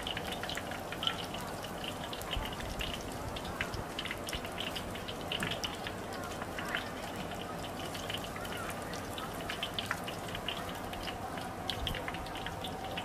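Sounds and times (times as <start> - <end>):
hot oil sizzling: 0.0 - 13.0
oil crackling and popping: 0.0 - 13.0.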